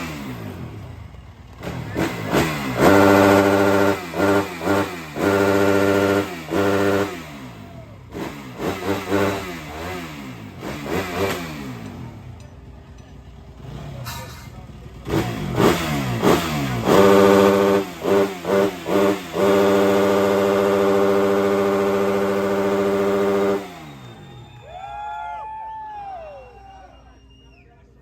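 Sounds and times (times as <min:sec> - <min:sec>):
motorcycle engine revving: 0:00.0 - 0:24.7.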